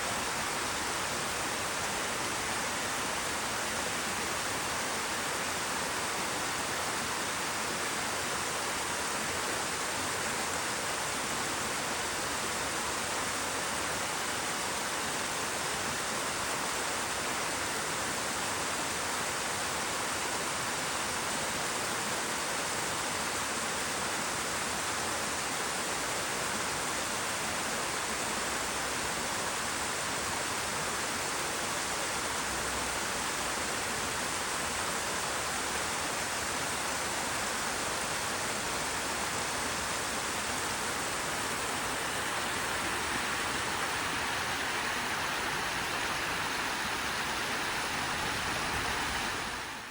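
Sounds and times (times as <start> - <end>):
waterfall rushing: 0.0 - 23.1, 24.3 - 49.9.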